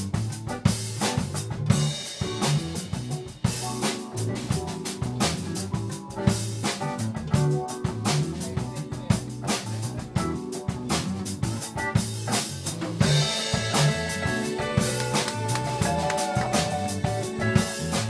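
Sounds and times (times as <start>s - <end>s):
drum kit: 0.0s - 18.0s
electric bass: 0.0s - 18.0s
electric guitar: 0.0s - 18.0s
keyboard: 0.0s - 18.0s.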